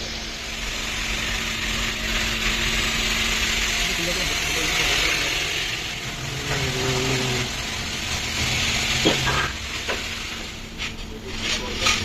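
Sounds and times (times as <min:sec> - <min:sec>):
rising whine: 0:00.0 - 0:10.8
motor humming with hiss: 0:00.0 - 0:12.0.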